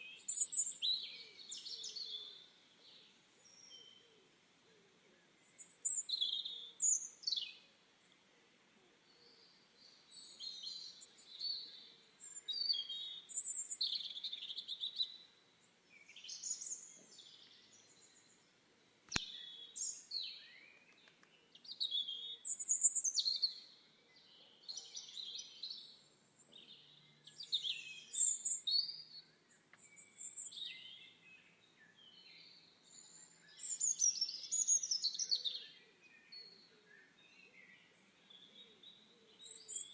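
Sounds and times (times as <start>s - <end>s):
birds singing and chirping: 0.0s - 4.0s, 5.4s - 7.7s, 9.1s - 15.3s, 15.9s - 18.5s, 19.1s - 39.9s.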